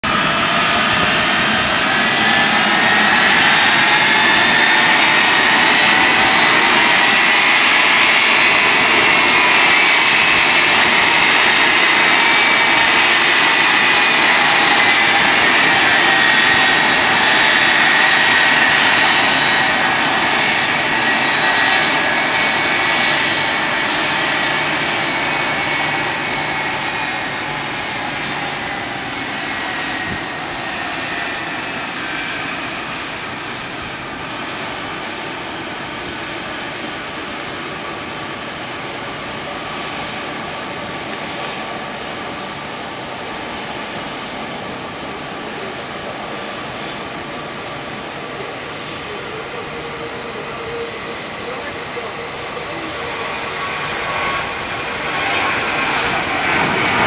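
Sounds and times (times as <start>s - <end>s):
jet engine roar with high whine: 0.0s - 57.0s.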